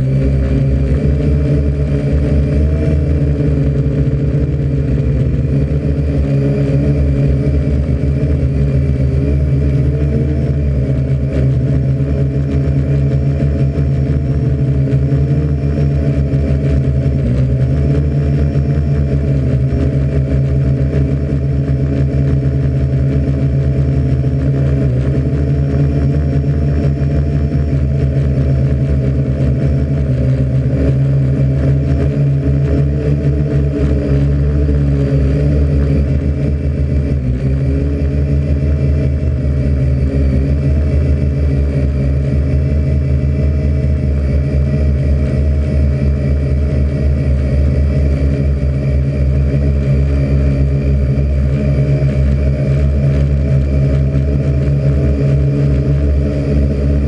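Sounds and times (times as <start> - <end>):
drone propellers humming: 0.0 - 57.0.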